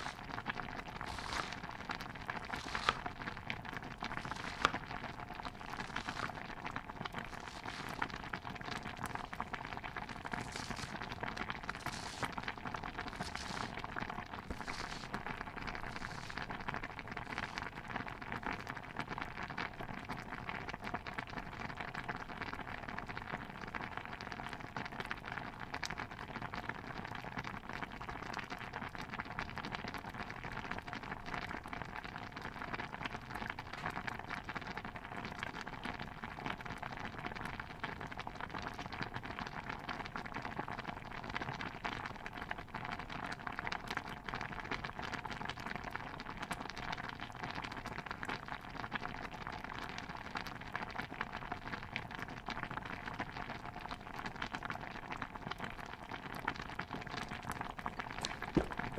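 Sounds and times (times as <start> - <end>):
stew bubbling and crackling: 0.0 - 58.9.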